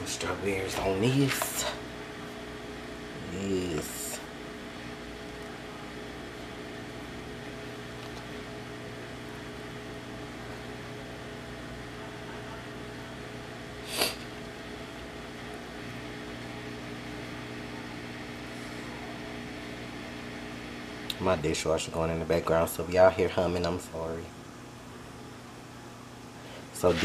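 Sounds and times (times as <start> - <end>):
dishwasher humming: 0.0 - 23.4, 26.4 - 27.0.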